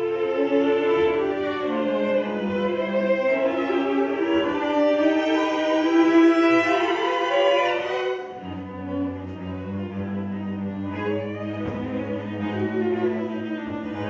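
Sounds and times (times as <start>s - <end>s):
string quartet playing: 0.0s - 14.0s.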